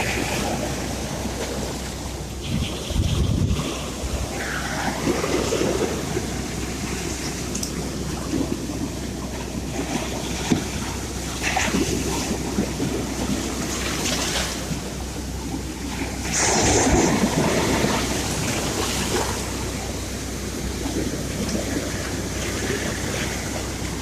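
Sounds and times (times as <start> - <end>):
sea waves washing in: 0.0 - 24.0.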